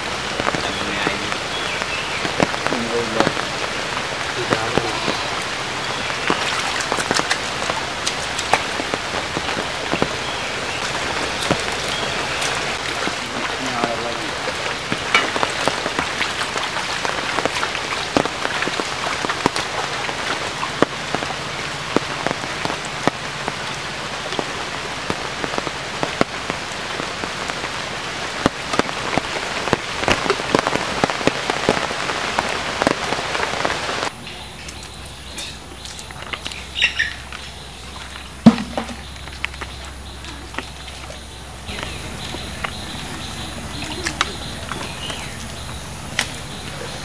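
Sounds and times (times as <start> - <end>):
heavy rain on standing water: 0.0 - 47.0.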